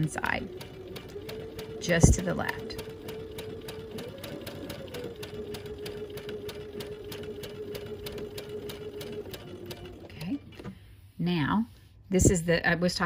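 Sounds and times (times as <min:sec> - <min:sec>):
sewing needle ticking: 0:00.0 - 0:10.5
sewing machine motor hum: 0:00.0 - 0:10.8.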